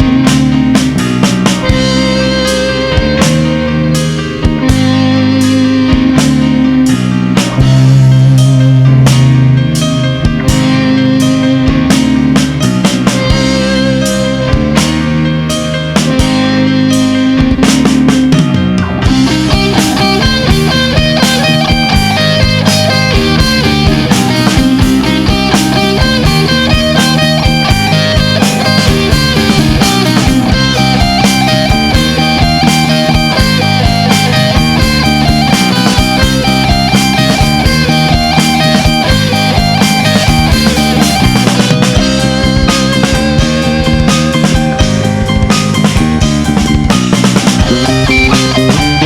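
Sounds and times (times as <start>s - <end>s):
drum beat: 0.0s - 16.7s, 17.4s - 49.0s
electric guitar: 0.0s - 49.0s.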